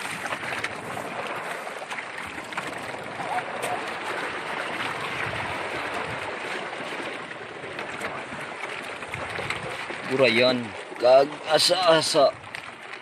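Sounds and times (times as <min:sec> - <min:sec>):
wet fishing net rustling: 0:00.0 - 0:11.0
sea water splashing: 0:00.0 - 0:13.0.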